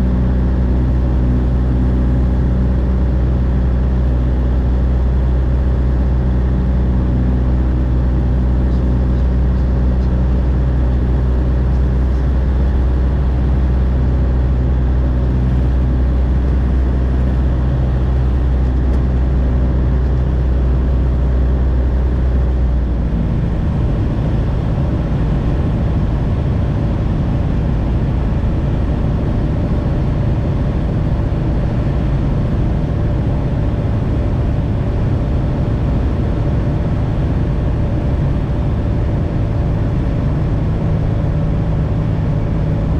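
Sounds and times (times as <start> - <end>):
light aircraft engine droning: 0.0 - 42.9.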